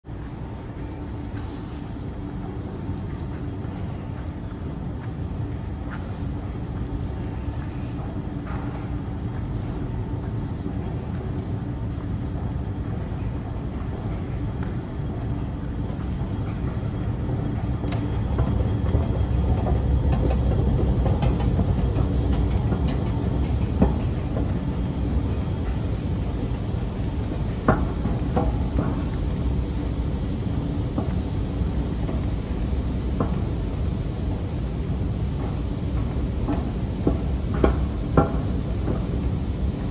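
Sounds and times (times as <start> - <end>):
subway train rumbling: 0.0 - 39.9.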